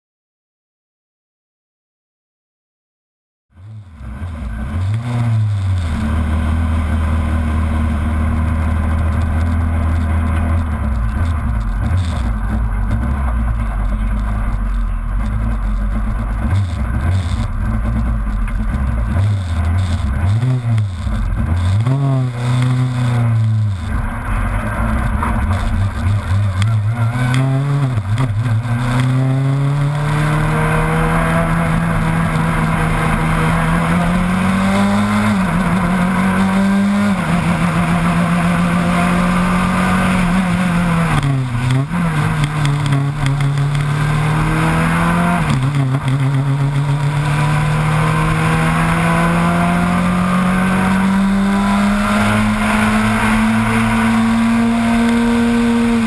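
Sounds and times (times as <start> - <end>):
car engine idling and revving: 3.5 - 56.0.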